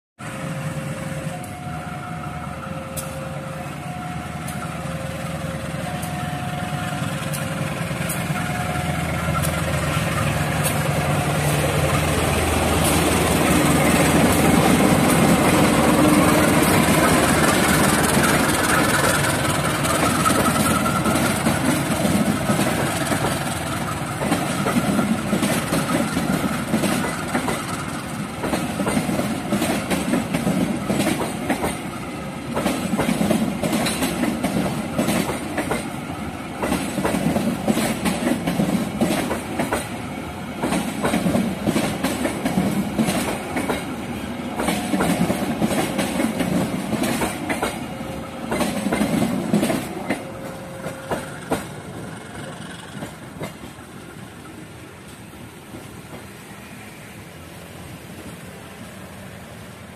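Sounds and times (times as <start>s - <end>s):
diesel locomotive engine drone: 0.2s - 59.9s.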